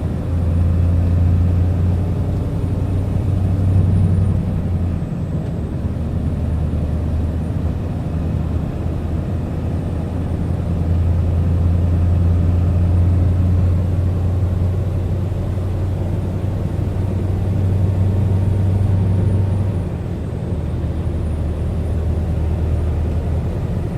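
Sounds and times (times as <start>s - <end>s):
truck diesel engine droning: 0.0s - 23.9s.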